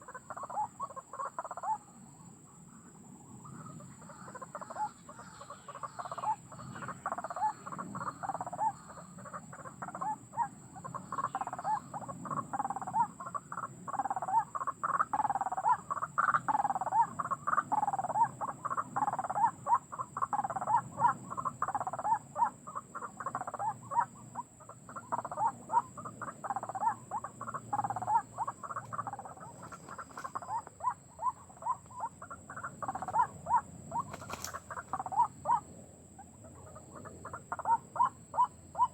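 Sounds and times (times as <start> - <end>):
bird harsh croaking calls: 0.0 - 2.0, 3.4 - 38.9.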